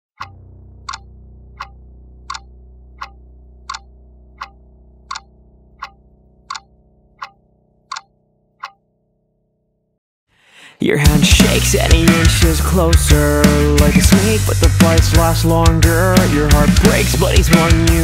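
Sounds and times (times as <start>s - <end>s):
clock ticking: 0.2s - 8.8s, 11.4s - 18.0s.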